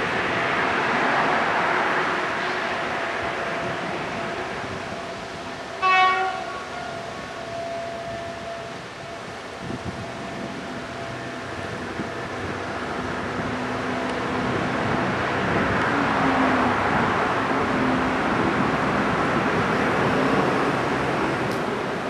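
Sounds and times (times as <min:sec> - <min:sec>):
diesel locomotive engine: 0:00.0 - 0:22.0
train rolling on rails: 0:00.0 - 0:22.0.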